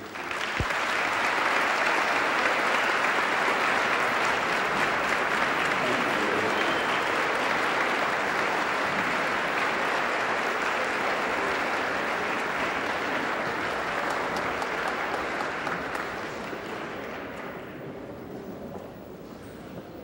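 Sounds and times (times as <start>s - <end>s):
large audience applauding: 0.0s - 17.8s.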